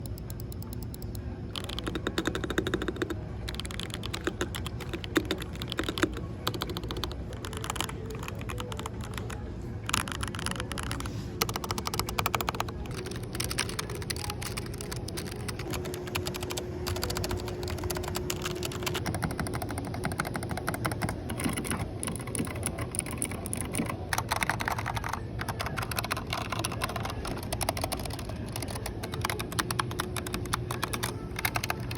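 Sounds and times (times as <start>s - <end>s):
keyboard key clicks: 0.0s - 31.9s.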